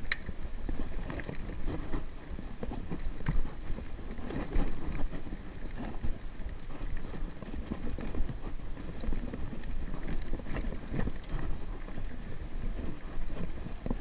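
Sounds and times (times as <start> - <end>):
bike rattling: 0.0 - 14.0
wind noise on microphone: 0.0 - 14.0.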